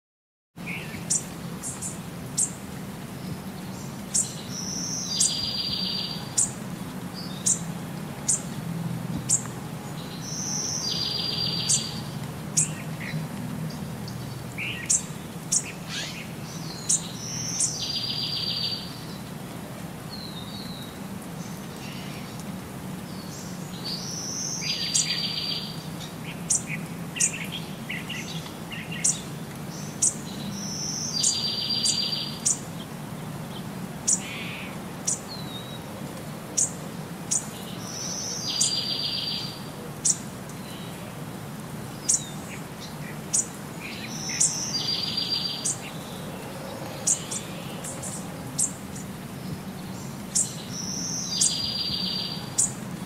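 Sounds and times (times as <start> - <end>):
small birds chirping: 0.6 - 8.6, 9.2 - 19.3, 20.1 - 35.9, 36.6 - 41.2, 41.8 - 52.8.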